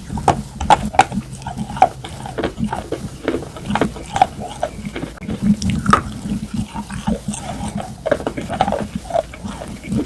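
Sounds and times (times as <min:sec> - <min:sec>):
chewing and crunching: 0:00.0 - 0:10.0
moist mouth sounds: 0:00.0 - 0:10.0.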